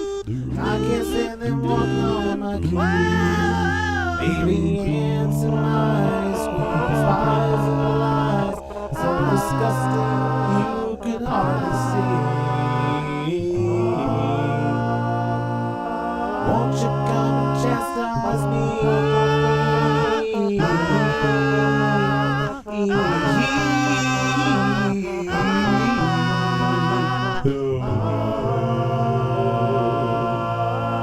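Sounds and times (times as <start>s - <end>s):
a cappella voices singing: 0.0s - 31.0s.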